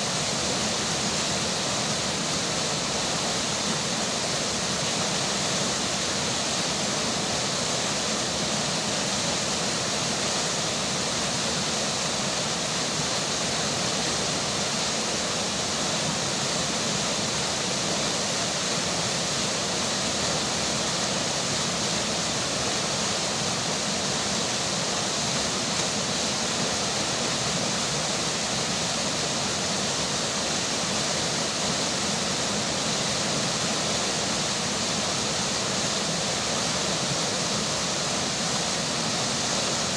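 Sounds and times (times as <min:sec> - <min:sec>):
flowing river: 0:00.0 - 0:39.9.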